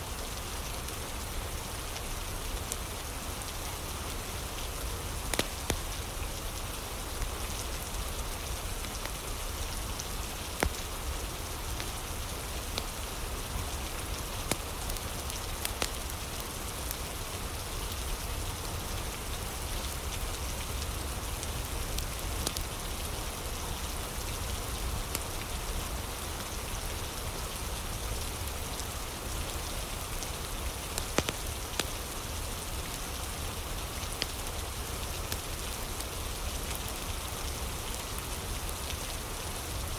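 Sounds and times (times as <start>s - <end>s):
steady rain falling: 0.0s - 39.9s
fire crackling and popping: 3.6s - 39.2s.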